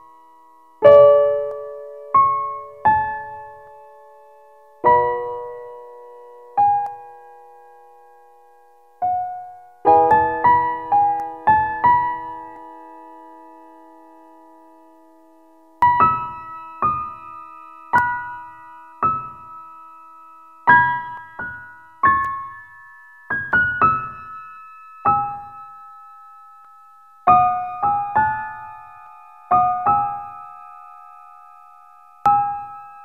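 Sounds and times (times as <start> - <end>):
slow sparse piano music: 0.0 - 33.0.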